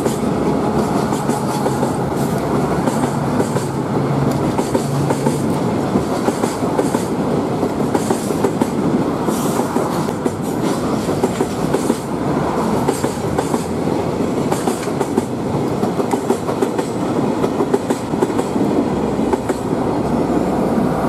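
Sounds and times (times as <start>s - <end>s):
train wheels clacking over rail joints: 0.0s - 19.8s.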